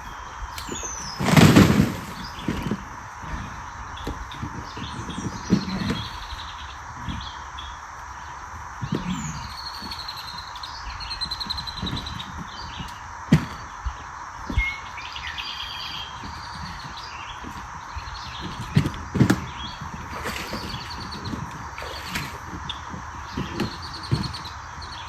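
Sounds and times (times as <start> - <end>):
birds chirping and trilling: 0.0 - 25.0
steady hiss: 0.0 - 25.0.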